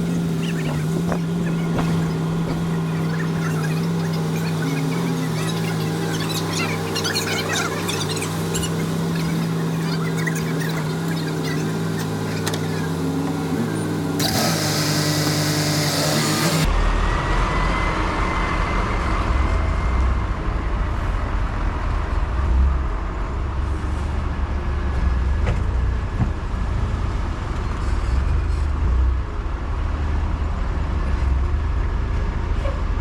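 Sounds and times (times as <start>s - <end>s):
vehicle engine and road noise: 0.0s - 14.2s, 18.4s - 33.0s.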